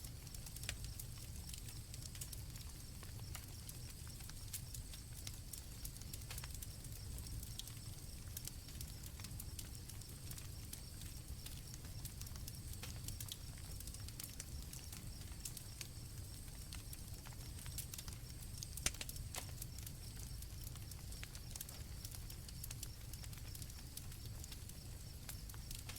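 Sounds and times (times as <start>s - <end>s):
campfire crackling and popping: 0.0s - 25.9s
crickets trilling: 0.1s - 25.9s.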